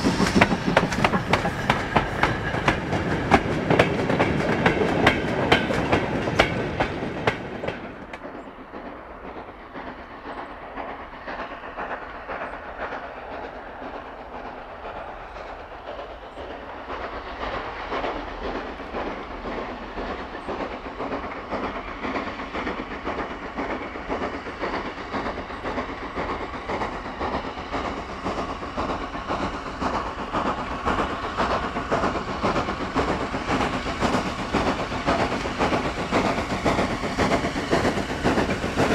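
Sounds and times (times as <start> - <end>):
steam locomotive chuffing: 0.0 - 38.9
train wheels clicking over rail joints: 0.0 - 38.9.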